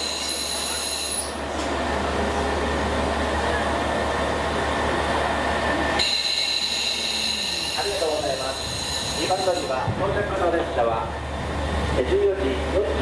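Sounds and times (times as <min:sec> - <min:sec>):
railcar wheels rolling: 0:00.0 - 0:13.0.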